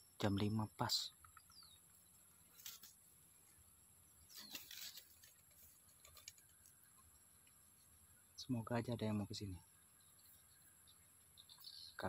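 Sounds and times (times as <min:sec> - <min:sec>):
faint high bird chirps: 0:00.0 - 0:02.8, 0:03.5 - 0:12.0.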